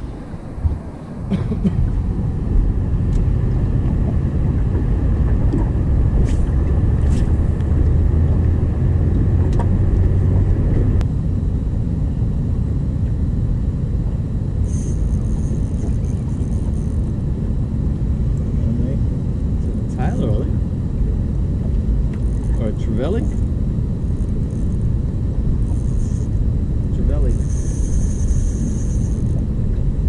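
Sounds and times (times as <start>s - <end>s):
boat motor droning: 0.0s - 30.0s.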